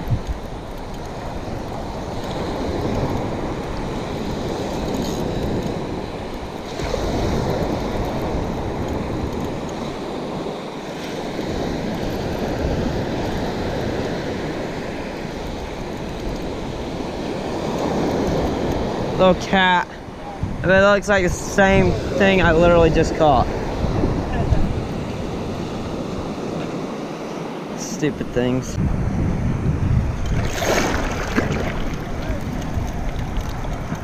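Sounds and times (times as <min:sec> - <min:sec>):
wind buffeting microphone: 0:00.0 - 0:27.7, 0:28.3 - 0:34.0
ocean surf washing onto beach: 0:00.0 - 0:34.0.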